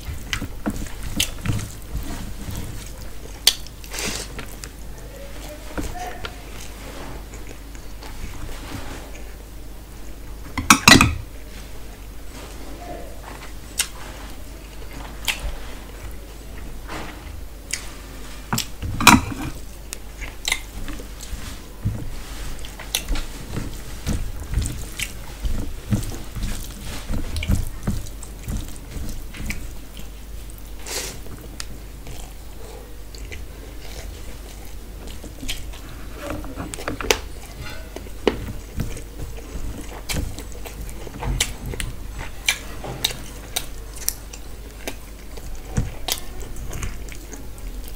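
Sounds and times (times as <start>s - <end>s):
chewing: 0.0s - 9.5s, 13.2s - 47.9s
squelching hand-mixing of rice: 0.0s - 10.4s, 11.2s - 47.9s.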